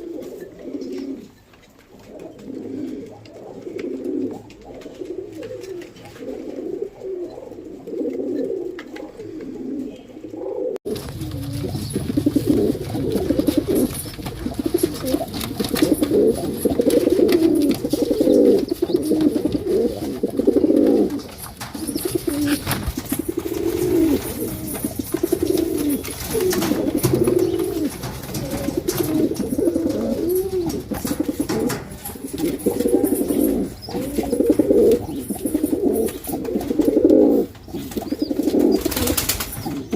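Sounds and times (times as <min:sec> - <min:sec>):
background hiss: 0:00.0 - 0:39.9
pigeons cooing: 0:00.0 - 0:39.9.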